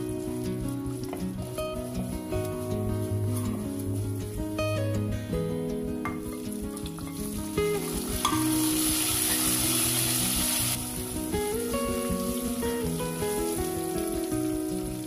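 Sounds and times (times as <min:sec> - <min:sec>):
background music: 0:00.0 - 0:15.0
hot oil sizzling: 0:00.0 - 0:15.0.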